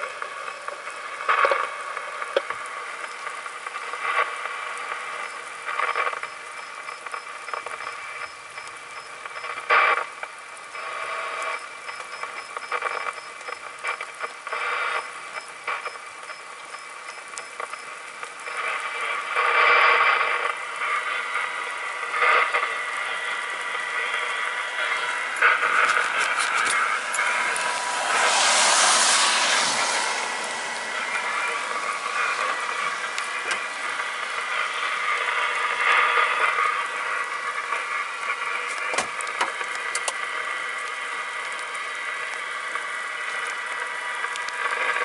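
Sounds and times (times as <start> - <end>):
radio scanner hiss and static: 0.0 - 45.0
steady rain falling: 0.0 - 45.0.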